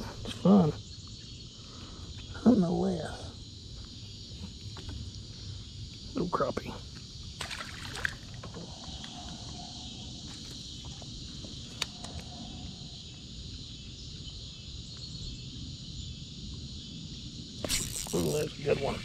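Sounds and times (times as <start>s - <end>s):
night insects chorus: 0.0s - 19.0s.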